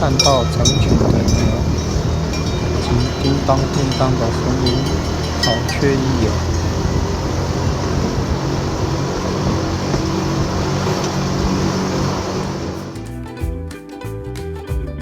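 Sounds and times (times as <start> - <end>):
music: 0.0 - 7.4, 9.4 - 15.0
low hum: 0.0 - 13.2
moving train rushing: 0.0 - 13.2.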